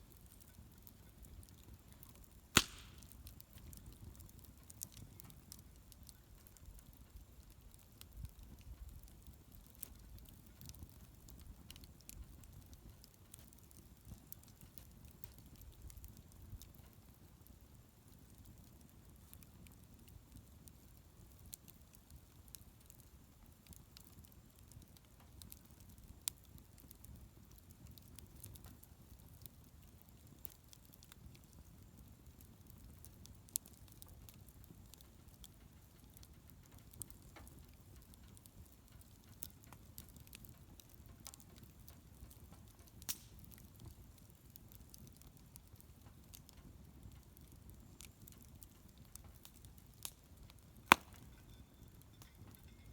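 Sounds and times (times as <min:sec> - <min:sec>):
bonfire crackling and popping: 0:00.0 - 0:52.9.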